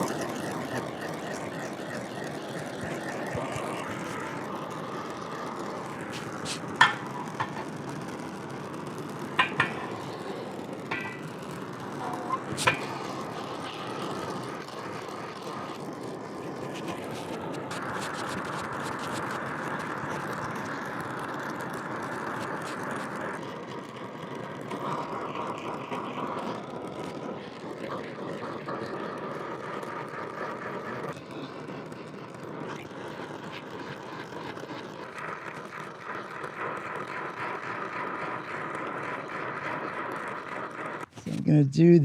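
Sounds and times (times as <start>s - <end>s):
torch flame hissing: 0.0s - 41.6s.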